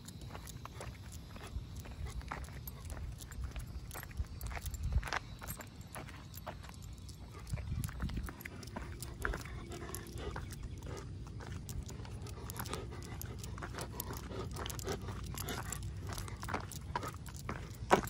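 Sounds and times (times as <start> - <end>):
dog claws clicking on pavement: 0.0 - 18.0
dog panting: 0.0 - 18.0.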